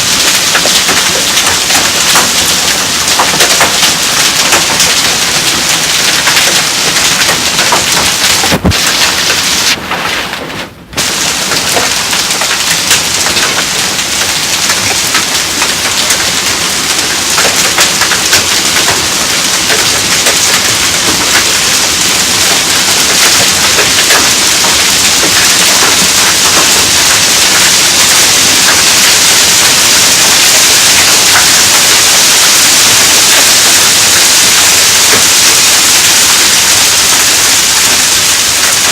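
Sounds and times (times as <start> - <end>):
hail falling heavily: 0.0 - 38.9.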